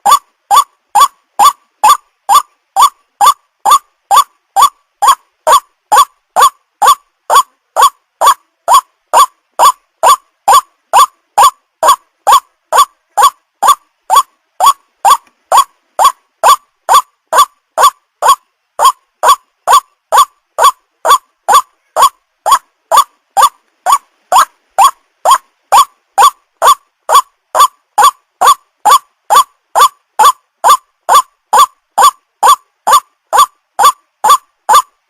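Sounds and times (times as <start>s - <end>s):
waterhen calling: 0.0s - 34.9s.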